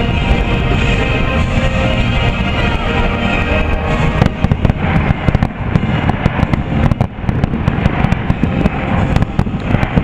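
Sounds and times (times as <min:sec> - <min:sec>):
fireworks bangs and crackles: 0:00.0 - 0:10.0
low rumble: 0:00.0 - 0:10.0.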